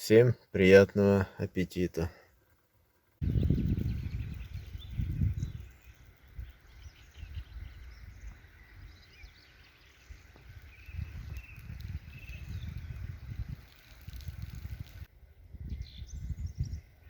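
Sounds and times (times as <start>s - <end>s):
small birds chirping: 0.0s - 17.0s
low rumble on microphone: 3.2s - 17.0s.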